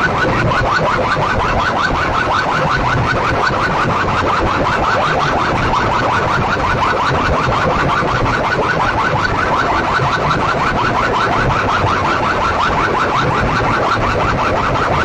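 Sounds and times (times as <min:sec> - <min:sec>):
electronic alarm chirps over loudspeakers: 0:00.0 - 0:15.0.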